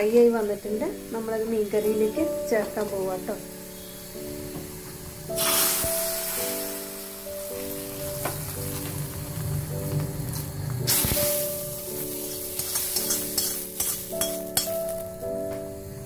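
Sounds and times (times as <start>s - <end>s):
background music with held tones: 0.0s - 16.0s
hot oil sizzling: 0.0s - 16.0s.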